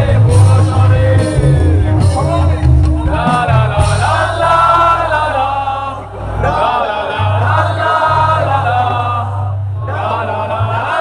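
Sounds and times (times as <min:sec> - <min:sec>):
heavy bass line: 0:00.0 - 0:11.0.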